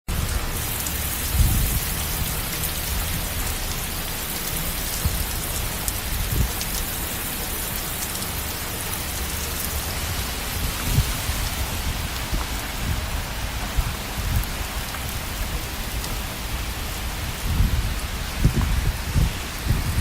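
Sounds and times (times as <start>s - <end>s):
rain falling: 0.1s - 20.0s.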